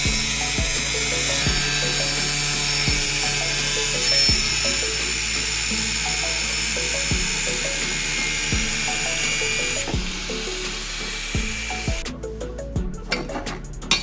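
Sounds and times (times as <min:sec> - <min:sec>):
angle grinder grinding: 0:00.0 - 0:12.2
background music with low beat: 0:00.0 - 0:14.0.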